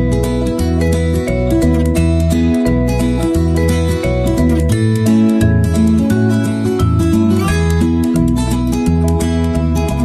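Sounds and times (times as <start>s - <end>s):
bass line: 0.0s - 10.0s
plucked guitar notes: 0.0s - 10.0s.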